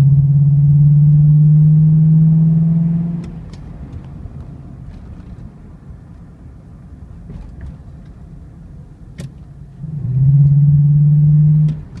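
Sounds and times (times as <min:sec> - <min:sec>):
engine rumble inside car: 0:00.0 - 0:12.0.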